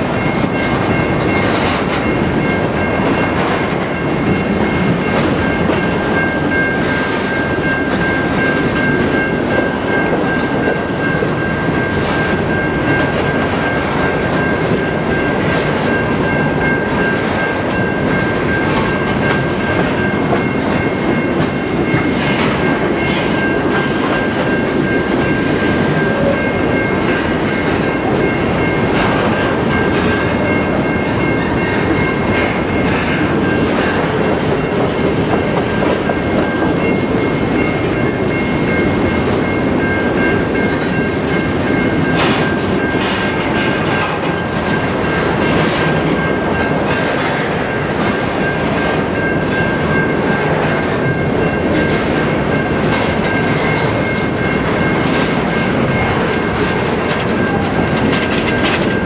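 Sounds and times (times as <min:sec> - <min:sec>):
high ringing tone: 0:00.0 - 0:59.0
train wheels rumbling on rails: 0:00.0 - 0:59.0.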